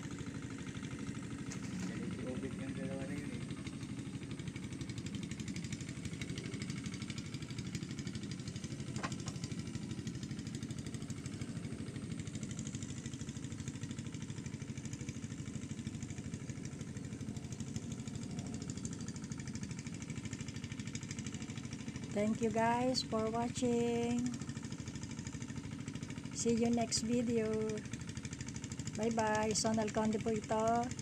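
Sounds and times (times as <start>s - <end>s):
small tractor engine running: 0.0s - 31.0s.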